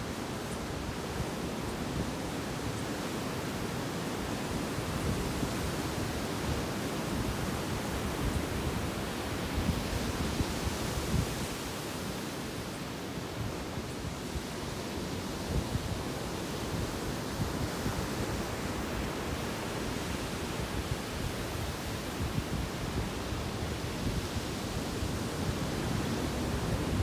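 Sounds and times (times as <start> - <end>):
wind gusting against microphone: 0.0 - 27.0.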